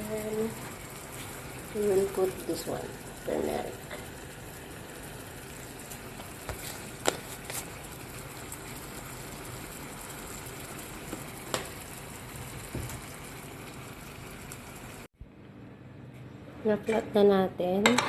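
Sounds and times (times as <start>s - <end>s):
chicken sizzling in a pan: 0.0s - 15.1s.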